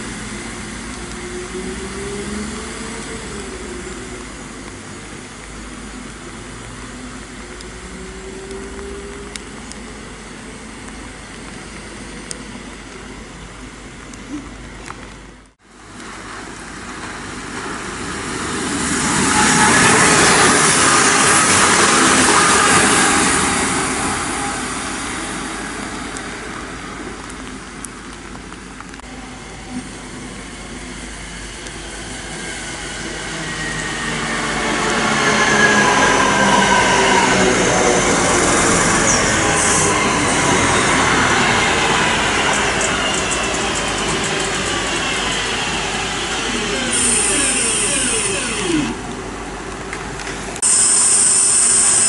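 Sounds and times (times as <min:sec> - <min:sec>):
electric train passing: 0:00.0 - 0:14.1, 0:15.8 - 0:28.1, 0:28.8 - 0:52.0
train rumble with falling whine: 0:00.0 - 0:52.0.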